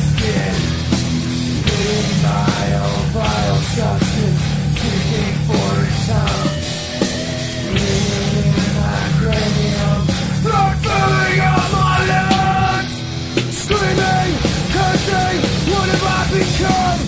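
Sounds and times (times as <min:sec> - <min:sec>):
bass guitar: 0:00.0 - 0:17.0
bending guitar lead lines: 0:00.0 - 0:17.0
distorted electric guitars: 0:00.0 - 0:17.0
fast drums: 0:00.0 - 0:17.0.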